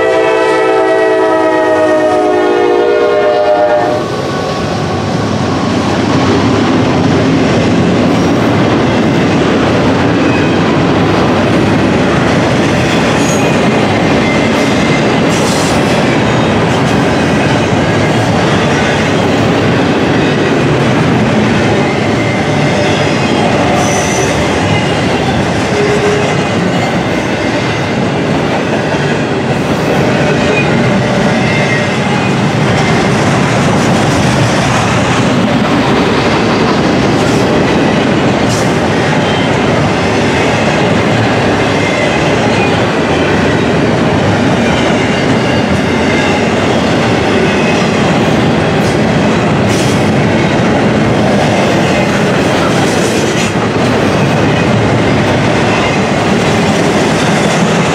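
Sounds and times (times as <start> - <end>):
train wheels on rails: 0.0 - 57.9.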